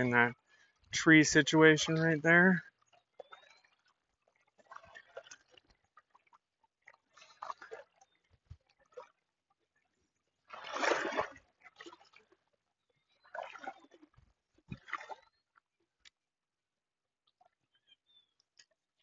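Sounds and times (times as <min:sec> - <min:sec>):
person wading through water: 0:00.0 - 0:19.0.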